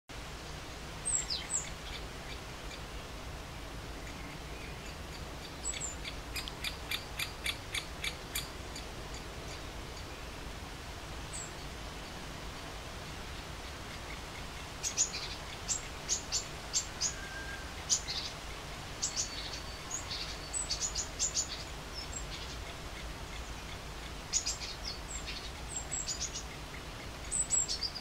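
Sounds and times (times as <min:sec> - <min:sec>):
high falling bird calls: 0:00.4 - 0:03.1, 0:03.9 - 0:10.3, 0:13.0 - 0:28.0.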